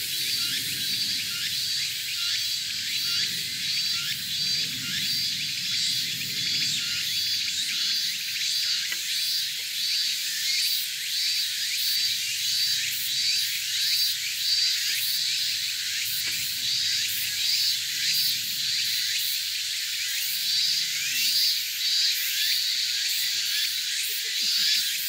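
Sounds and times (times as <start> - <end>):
continuous high insect buzz: 0.0 - 25.0
insects pulsing high call: 0.0 - 25.0.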